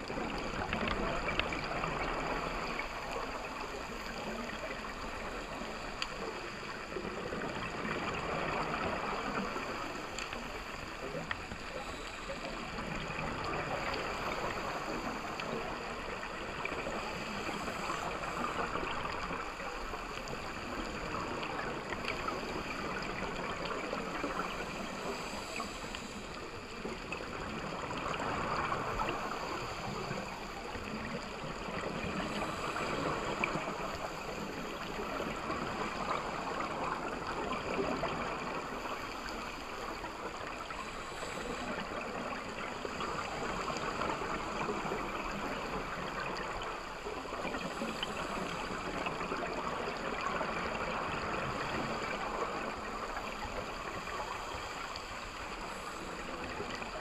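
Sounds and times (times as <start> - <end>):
underwater water rush and gurgle: 0.0 - 57.0.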